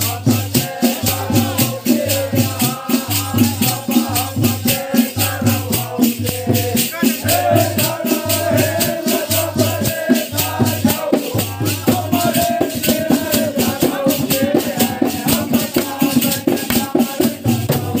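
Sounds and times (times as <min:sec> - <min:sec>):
barrel drum beat: 0:00.0 - 0:18.0
men singing folk song: 0:00.0 - 0:18.0.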